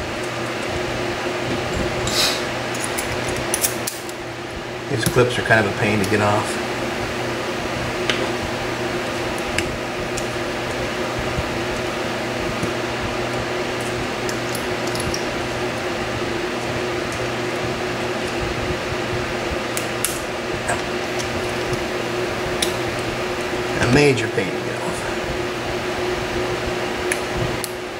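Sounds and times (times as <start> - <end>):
steady background hum: 0.0 - 27.9.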